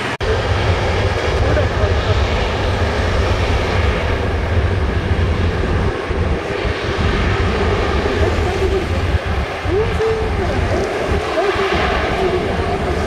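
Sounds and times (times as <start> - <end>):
airliner jet engines on runway: 0.0 - 13.0.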